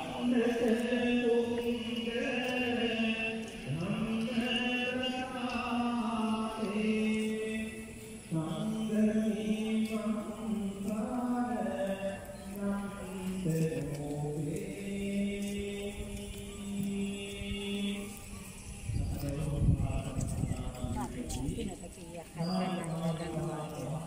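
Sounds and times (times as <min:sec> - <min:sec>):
person chanting: 0:00.0 - 0:21.8, 0:22.4 - 0:24.0.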